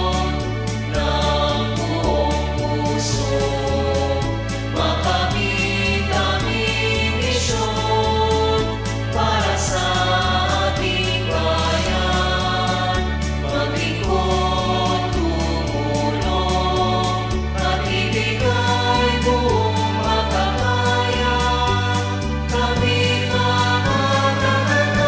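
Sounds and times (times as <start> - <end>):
choir singing a hymn: 0.0 - 25.0
instrumental accompaniment: 0.0 - 25.0
low alternating bass line: 0.0 - 25.0.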